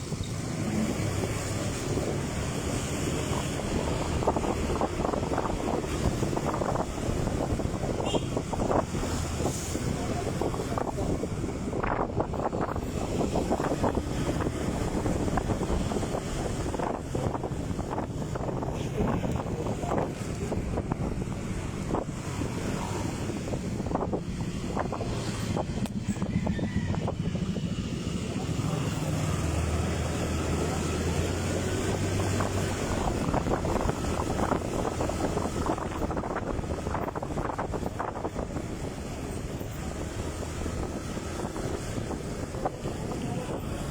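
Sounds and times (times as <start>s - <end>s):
motorcycle road noise: 0.0s - 43.9s
wind buffeting microphone: 0.0s - 43.9s.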